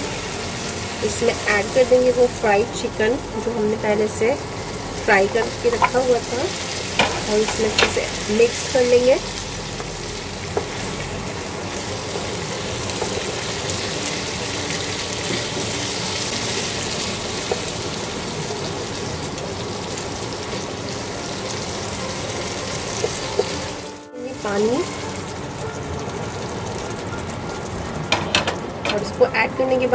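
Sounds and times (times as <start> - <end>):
chicken sizzling in frying pan: 0.0 - 29.9.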